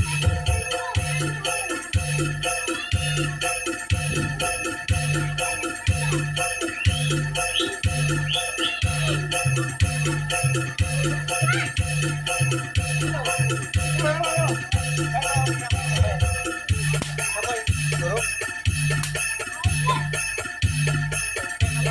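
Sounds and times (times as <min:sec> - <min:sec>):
jingling bells: 0:00.0 - 0:21.9
bass drum beat: 0:02.0 - 0:21.9.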